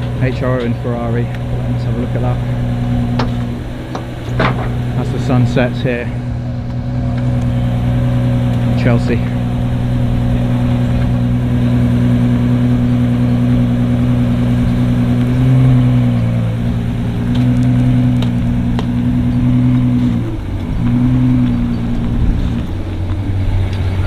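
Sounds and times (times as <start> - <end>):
car engine running at low revs: 0.0 - 24.0.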